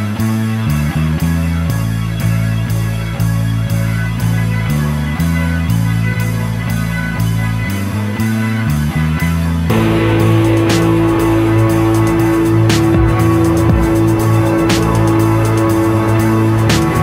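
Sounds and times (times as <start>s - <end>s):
instrumental music with guitar and beat: 0.0s - 17.0s.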